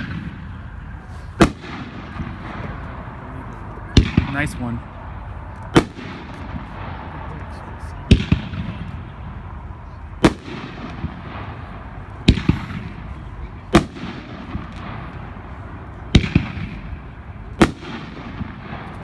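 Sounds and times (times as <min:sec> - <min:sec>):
fireworks bangs with echo: 0:00.0 - 0:19.0.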